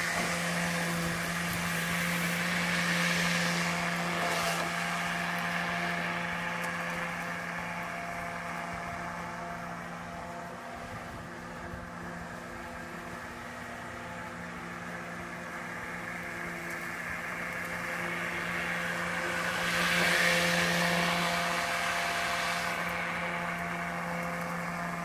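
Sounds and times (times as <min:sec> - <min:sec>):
electric lawn mower cutting grass: 0:00.0 - 0:25.0.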